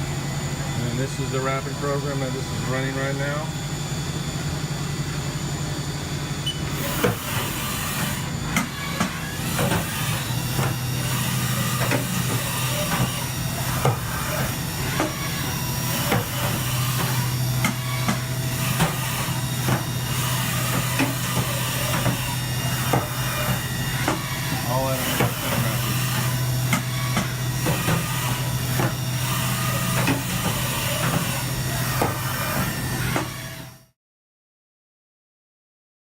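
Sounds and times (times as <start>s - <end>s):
milling machine humming: 0.0s - 33.9s.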